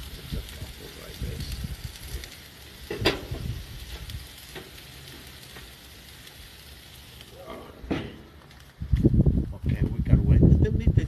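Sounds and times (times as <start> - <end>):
meat and peppers sizzling on griddle: 0.0 - 11.0.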